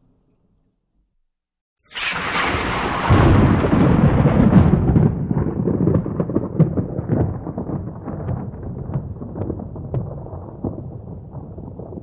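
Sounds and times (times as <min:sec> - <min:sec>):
thunder crack and rumble: 0:01.9 - 0:12.0.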